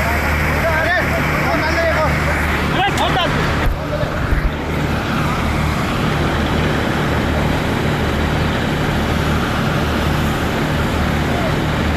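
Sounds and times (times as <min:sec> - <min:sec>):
engine humming: 0:00.0 - 0:11.9
fire hose spraying water: 0:00.0 - 0:11.9.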